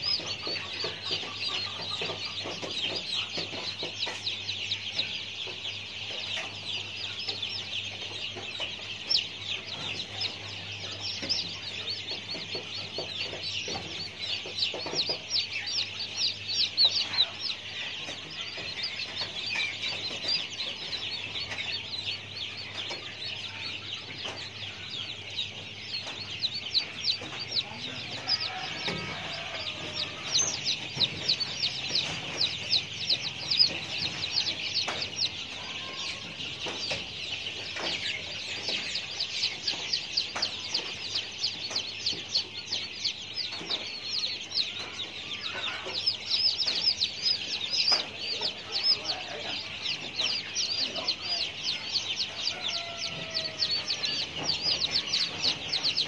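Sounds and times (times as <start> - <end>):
rapid high-pitched bird chirping: 0.0 - 56.0.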